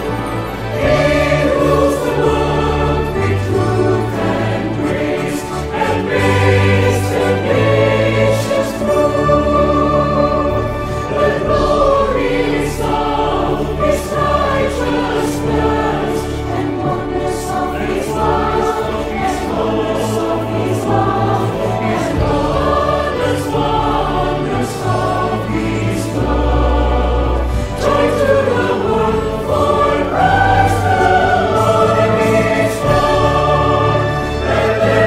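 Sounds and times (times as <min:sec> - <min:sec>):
choir singing in harmony: 0:00.0 - 0:35.0.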